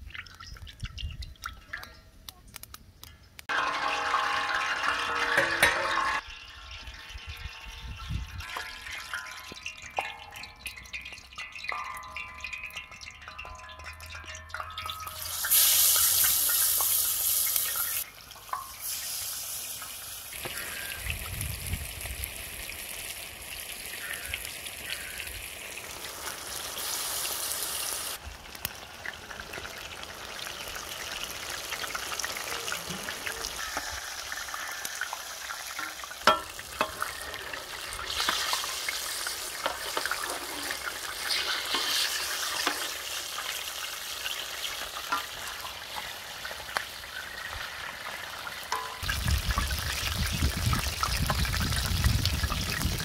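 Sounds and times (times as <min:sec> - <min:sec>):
fish frying in hot oil: 0:03.4 - 0:53.0.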